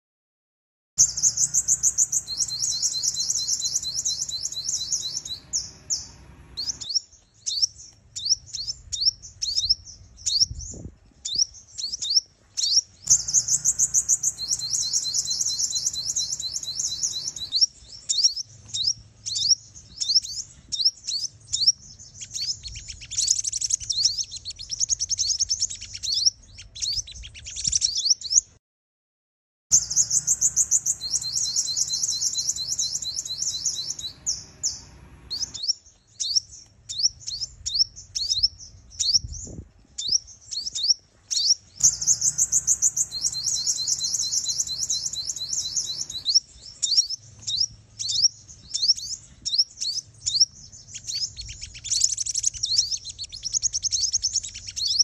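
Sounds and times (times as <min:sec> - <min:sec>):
sunbird chirps and trills: 0:01.0 - 0:28.6, 0:29.7 - 0:55.0.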